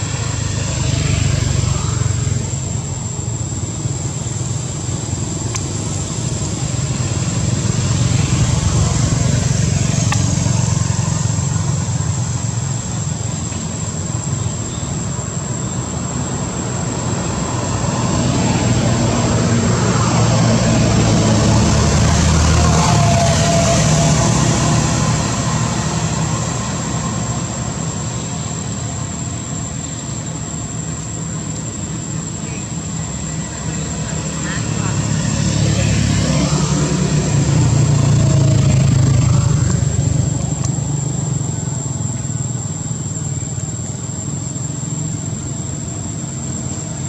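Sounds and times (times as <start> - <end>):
low rumble of traffic: 0.0 - 47.0.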